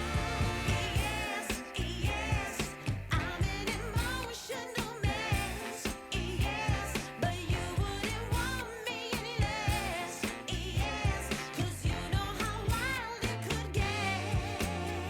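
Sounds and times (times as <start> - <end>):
pop song with sung vocal: 0.0 - 15.0.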